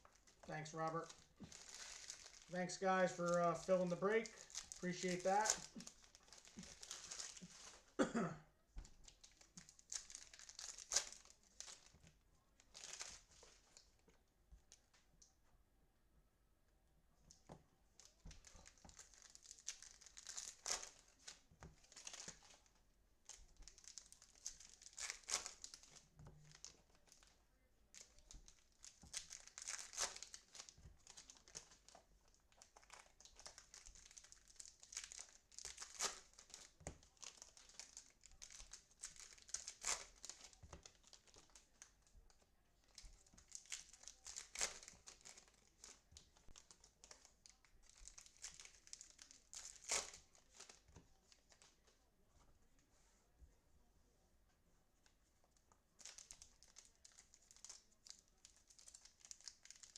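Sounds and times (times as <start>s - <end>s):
plastic wrapping crinkling and tearing: 0.0s - 8.0s, 8.8s - 14.1s, 17.3s - 51.9s, 55.6s - 59.9s.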